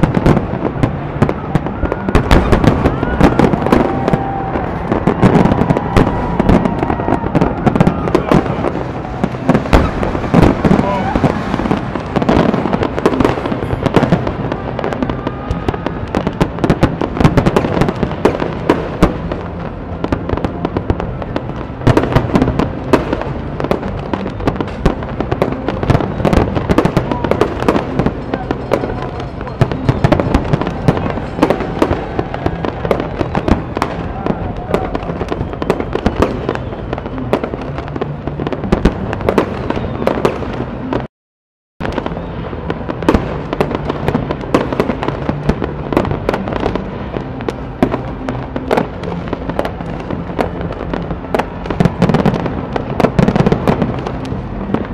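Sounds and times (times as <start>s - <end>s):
fireworks crackling: 0.0s - 41.1s, 41.8s - 54.9s.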